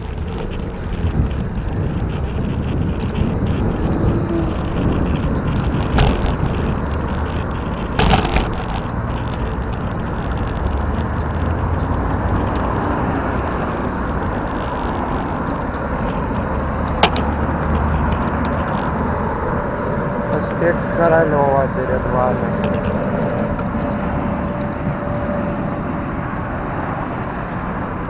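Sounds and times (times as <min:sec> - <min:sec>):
bicycle riding on road: 0:00.0 - 0:28.0.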